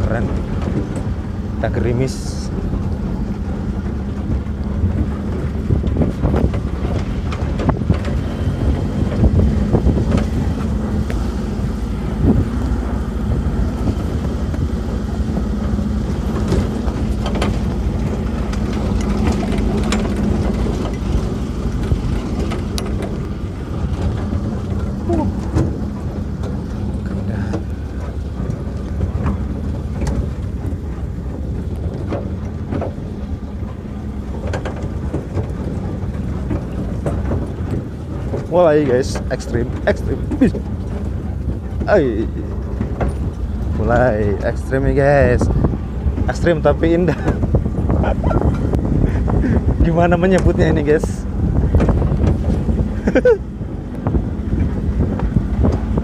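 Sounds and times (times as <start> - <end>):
body knocks and rattles: 0.0 - 56.0
jeep engine running: 0.0 - 56.0.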